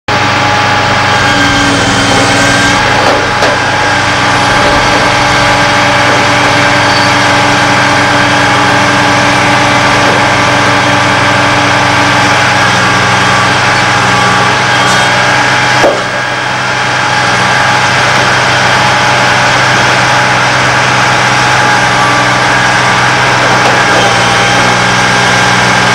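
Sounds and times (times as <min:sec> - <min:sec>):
diesel machinery engine drone: 0:00.1 - 0:25.9.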